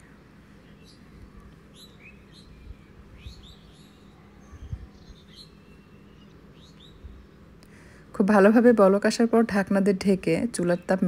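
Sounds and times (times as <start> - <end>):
faint steady hum: 0.0 - 11.0
small birds chirping: 0.0 - 11.0.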